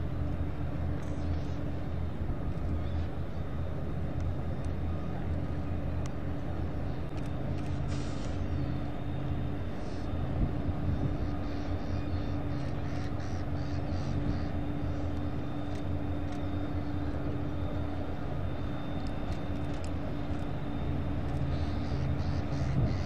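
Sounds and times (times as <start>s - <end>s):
ship engine droning hum: 0.0s - 23.0s.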